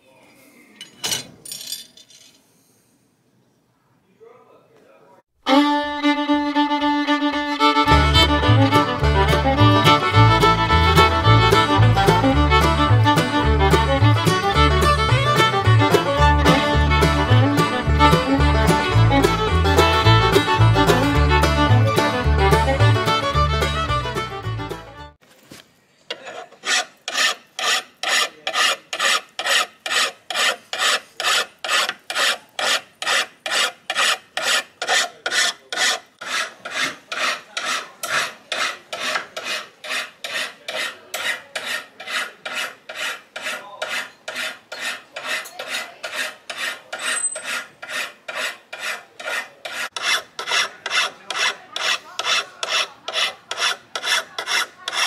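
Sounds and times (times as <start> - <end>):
hand file rasping on steel: 7.8 - 24.9, 26.1 - 55.0.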